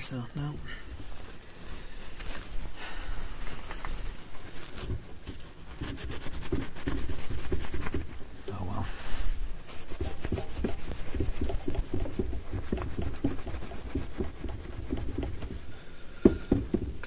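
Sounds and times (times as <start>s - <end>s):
cloth rubbing on metal plate: 1.0s - 8.8s, 9.6s - 16.4s.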